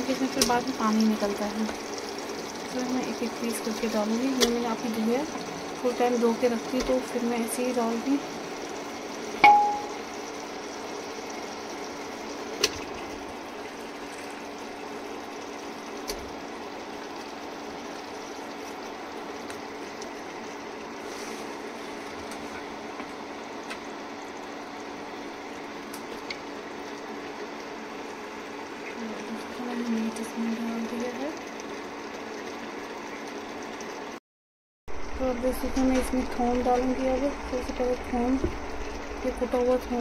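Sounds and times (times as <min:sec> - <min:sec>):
meat sizzling in hot oil: 0:00.0 - 0:34.2.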